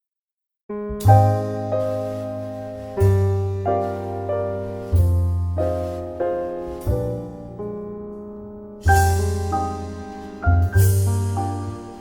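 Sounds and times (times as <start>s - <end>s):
slow piano chords: 0.7s - 12.0s.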